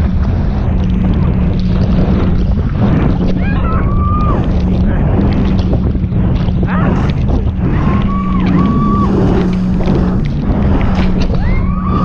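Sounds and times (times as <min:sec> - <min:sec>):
boat engine running: 0:00.0 - 0:12.0
rushing water spray: 0:00.0 - 0:12.0
wind buffeting microphone: 0:00.0 - 0:12.0.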